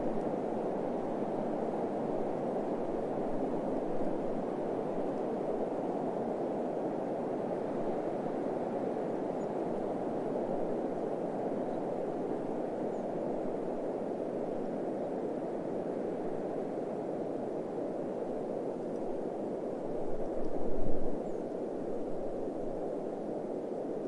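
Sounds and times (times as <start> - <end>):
steady wind: 0.0 - 24.0.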